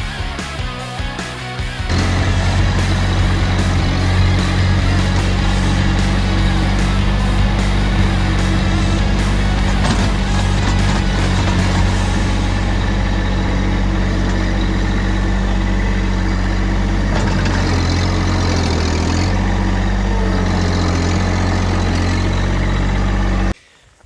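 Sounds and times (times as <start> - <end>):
tractor engine running: 1.3 - 23.6.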